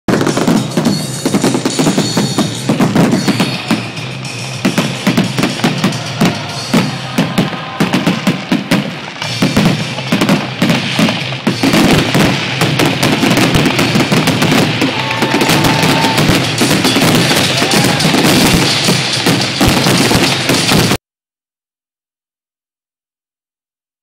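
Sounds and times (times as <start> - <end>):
fireworks bangs and crackling: 0.1 - 21.0.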